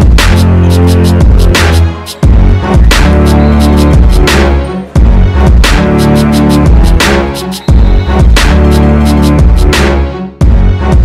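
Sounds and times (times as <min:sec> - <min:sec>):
bass-heavy music with steady beat: 0:00.0 - 0:11.0.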